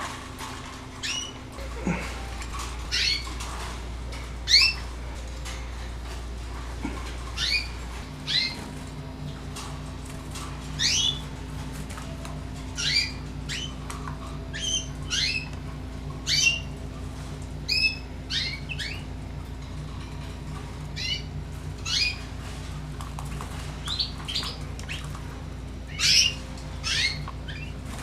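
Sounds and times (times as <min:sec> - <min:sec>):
canaries chirping: 0:00.0 - 0:28.0
low steady hum: 0:00.0 - 0:28.0.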